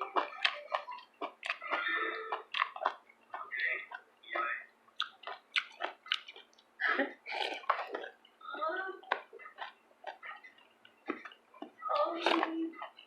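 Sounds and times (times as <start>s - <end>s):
noodles being chewed: 0.0s - 13.0s.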